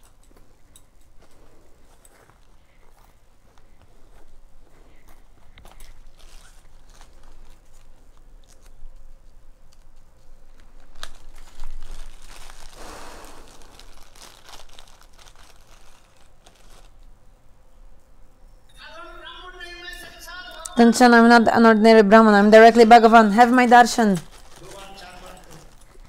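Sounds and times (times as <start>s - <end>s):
crackling and rustling: 0.0s - 18.2s, 22.3s - 26.0s.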